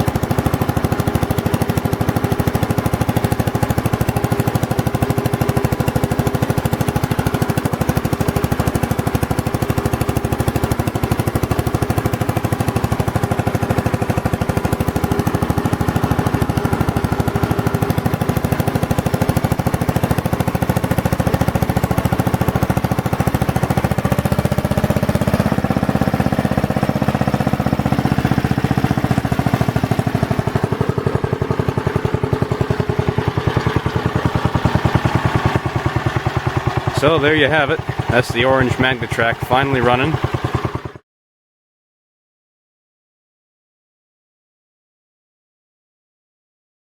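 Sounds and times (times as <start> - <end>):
garden tractor engine running: 0.0 - 41.0.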